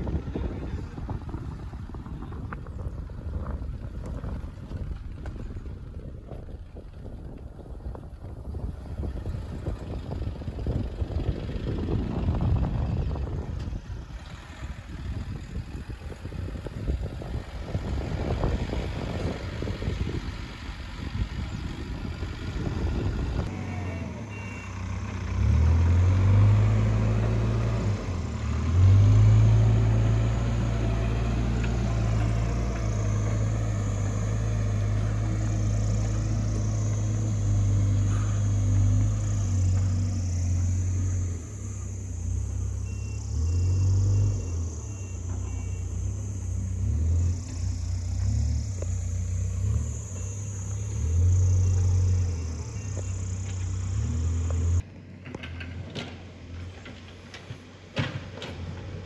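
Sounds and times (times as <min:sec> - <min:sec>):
low engine drone: 0:00.0 - 0:55.7
tyres on gravel road: 0:00.0 - 0:59.0.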